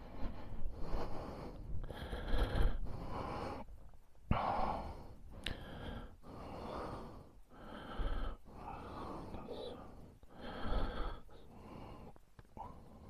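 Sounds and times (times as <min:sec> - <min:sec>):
person breathing close: 0:00.0 - 0:13.0.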